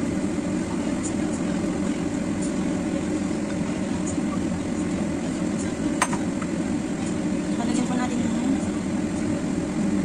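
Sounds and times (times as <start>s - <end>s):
kitchen rushing hum: 0.0s - 10.0s.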